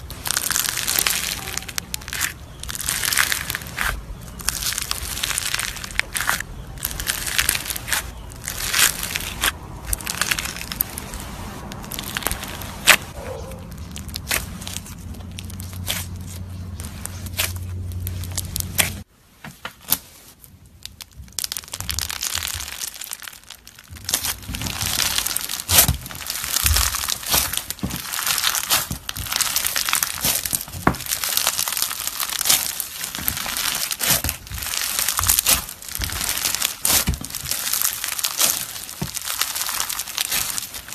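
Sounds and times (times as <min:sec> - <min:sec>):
beads crackling and crunching: 0:00.0 - 0:19.1, 0:19.8 - 0:40.9
hands squishing bead slime: 0:00.0 - 0:19.1, 0:19.7 - 0:40.9.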